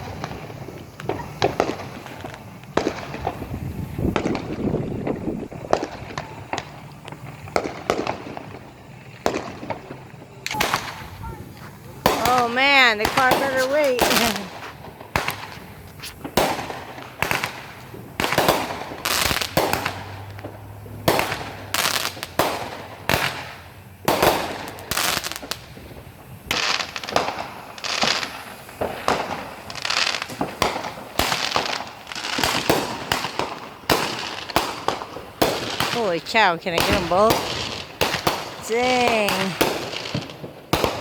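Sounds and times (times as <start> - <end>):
fireworks banging: 0.0 - 41.0
fireworks crackling: 0.0 - 41.0.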